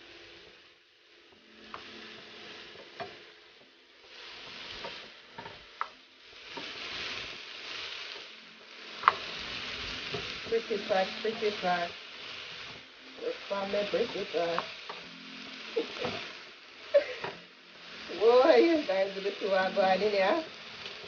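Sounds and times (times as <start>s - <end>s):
peppers sizzling in a frying pan: 0.0s - 21.0s.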